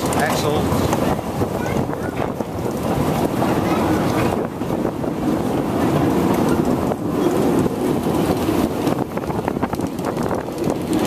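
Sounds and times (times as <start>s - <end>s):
train wheels rumbling on track: 0.0s - 11.0s
wind buffeting microphone: 0.0s - 11.0s.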